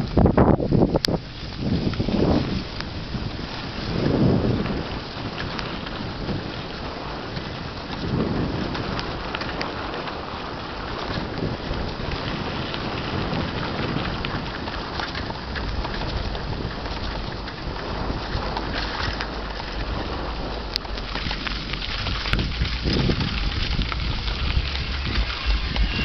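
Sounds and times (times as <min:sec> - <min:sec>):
bicycle tyres rolling on dirt: 0:00.0 - 0:26.0
wind rumbling on microphone: 0:00.0 - 0:26.0.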